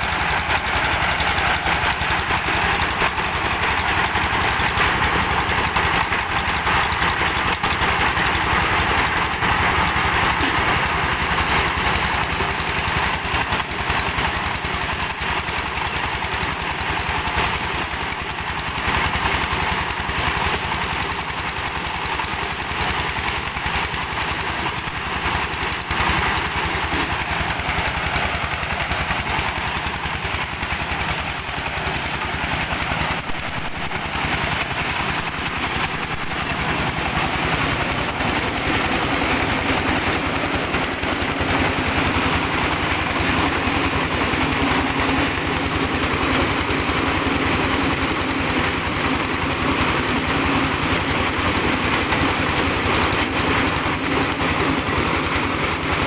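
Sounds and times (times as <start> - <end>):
corn sheller engine running: 0.0 - 56.0.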